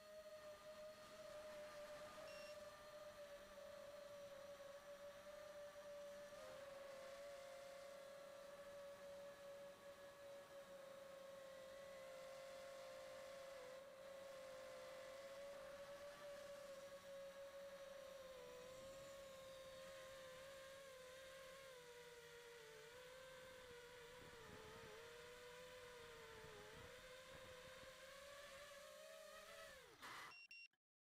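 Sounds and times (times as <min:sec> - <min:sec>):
quadcopter motors whining: 0:00.0 - 0:30.5.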